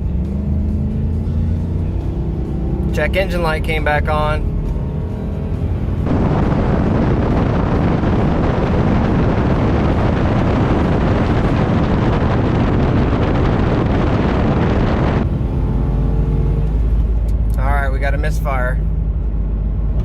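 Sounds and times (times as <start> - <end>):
wind and road noise rushing: 0.0 - 20.0.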